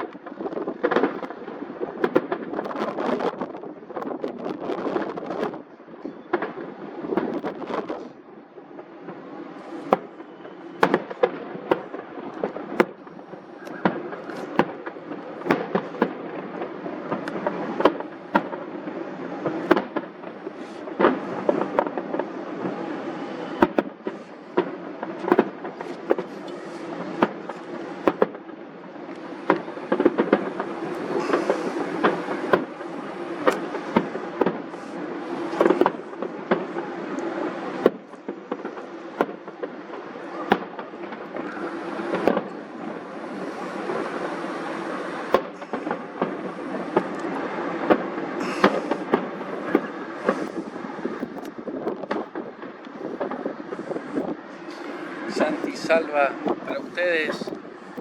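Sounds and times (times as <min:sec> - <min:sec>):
continuous noisy din: 0:00.0 - 0:58.0
fireworks bangs and pops: 0:00.0 - 0:58.0.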